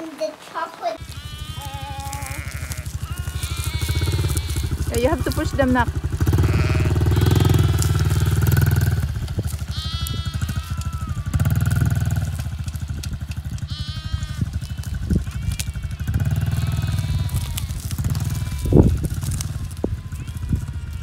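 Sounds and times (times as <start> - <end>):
sheep bleating: 0.9 - 21.0
small dirt bike engine running: 1.0 - 21.0.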